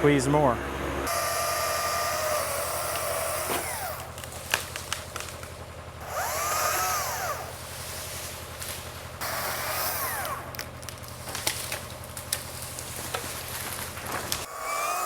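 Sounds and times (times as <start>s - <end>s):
low engine hum: 0.0s - 15.0s
chainsaw whining and revving: 0.6s - 5.4s, 6.0s - 15.0s.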